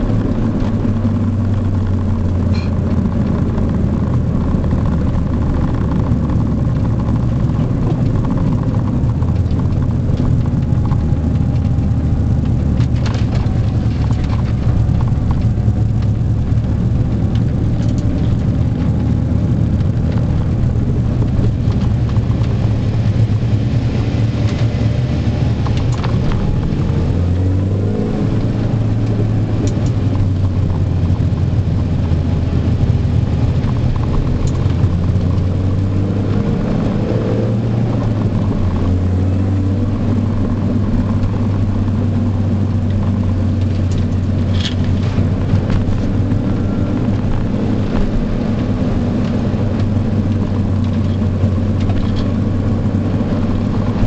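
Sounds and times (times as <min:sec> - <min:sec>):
car engine droning: 0:00.0 - 0:54.0
road and tyre noise: 0:00.0 - 0:54.0.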